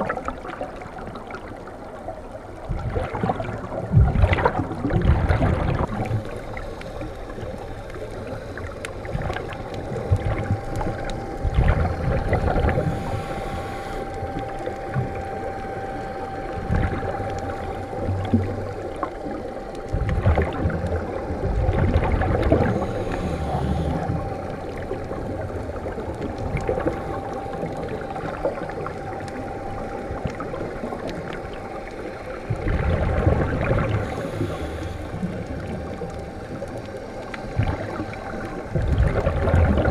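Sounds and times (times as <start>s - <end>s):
diver regulator bubbles: 0.0s - 39.9s
underwater hiss: 2.9s - 39.9s
faint steady tone: 5.2s - 39.9s.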